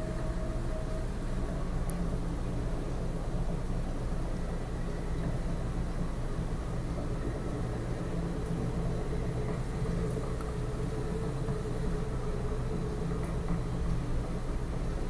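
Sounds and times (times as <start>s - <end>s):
faint steady whine: 0.0s - 15.0s
low engine rumble: 0.0s - 15.0s.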